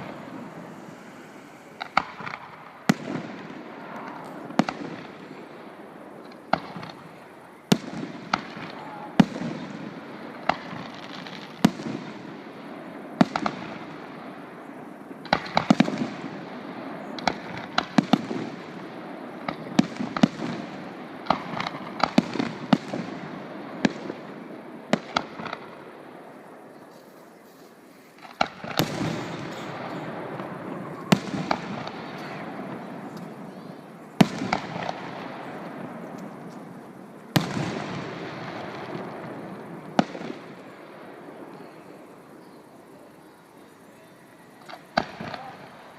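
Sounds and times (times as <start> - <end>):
firework shells bursting: 0.0 - 41.6
fireworks crackling: 0.0 - 45.9.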